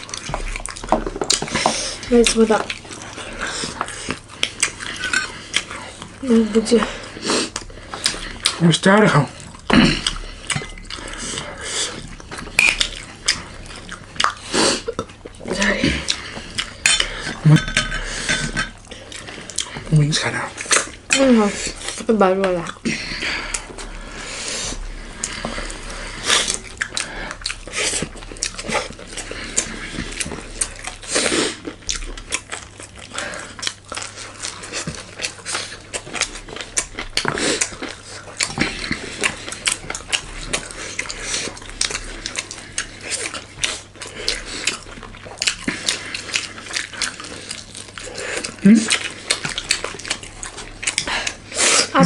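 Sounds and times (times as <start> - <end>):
chewing and biting: 0.0 - 52.0.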